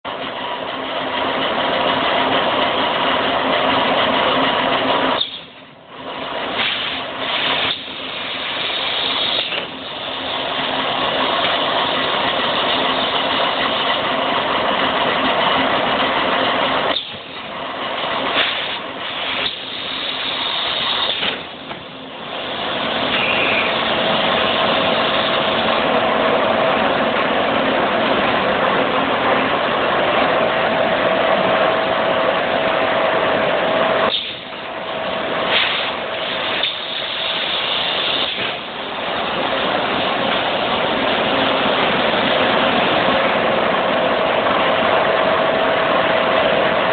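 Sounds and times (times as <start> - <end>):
packing machine running: 0.1 - 46.9.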